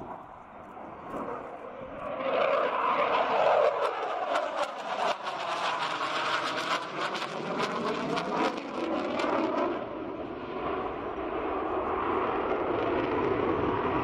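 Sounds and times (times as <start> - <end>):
fighter jet engines roaring: 0.0 - 14.0.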